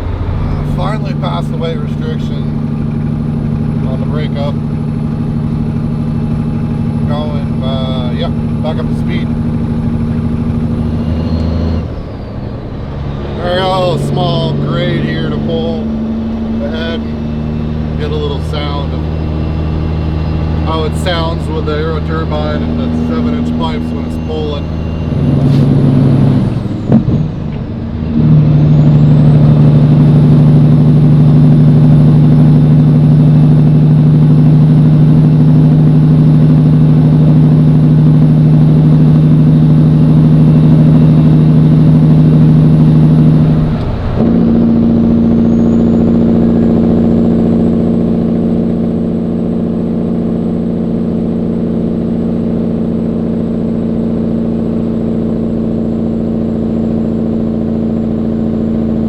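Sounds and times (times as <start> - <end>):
diesel truck engine under load: 0.0 - 59.0
high turbo whistle: 4.2 - 57.2.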